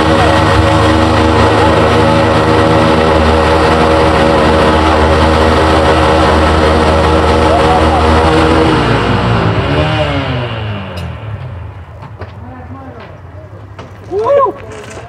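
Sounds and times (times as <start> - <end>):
spinning tyres: 0.0 - 12.5
motorcycle engines revving high: 0.0 - 12.8.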